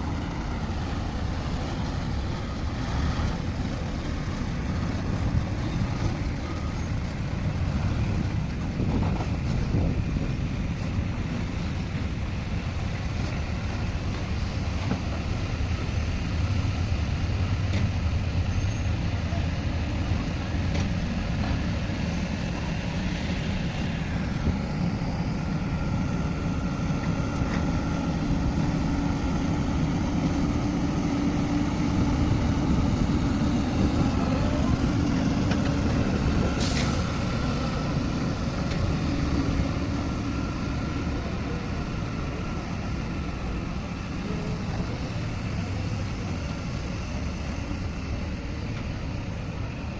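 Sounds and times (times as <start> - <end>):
heavy diesel machinery rumbling: 0.0 - 49.9.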